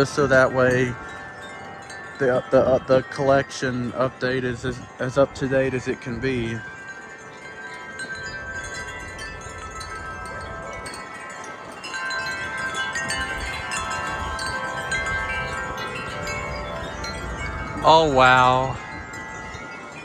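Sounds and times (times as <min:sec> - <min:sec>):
metal wind chimes ringing: 0:00.0 - 0:20.0
wind rumble: 0:00.0 - 0:20.0.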